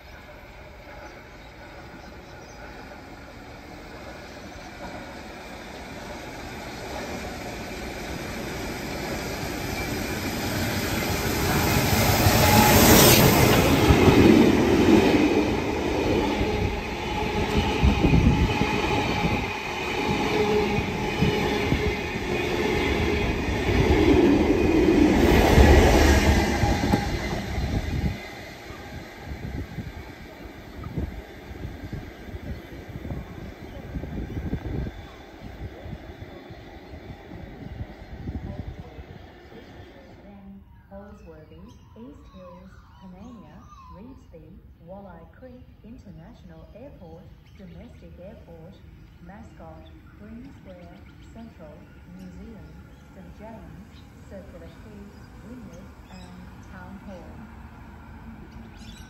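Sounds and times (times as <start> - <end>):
diesel locomotive passing: 0.0 - 59.0
passenger train passing: 0.0 - 59.0.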